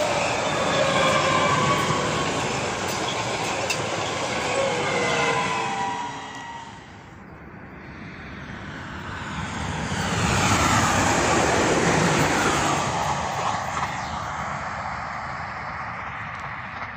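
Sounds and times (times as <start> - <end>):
train passing rushing: 0.0 - 16.9.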